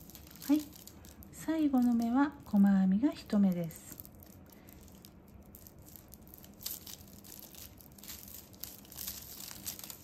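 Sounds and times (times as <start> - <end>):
plastic tape crinkling and rustling: 0.0 - 10.0.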